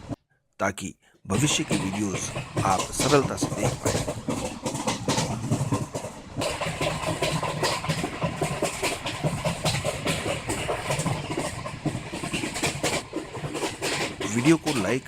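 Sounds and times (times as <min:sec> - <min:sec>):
train rumbling and clattering: 0:01.3 - 0:15.0.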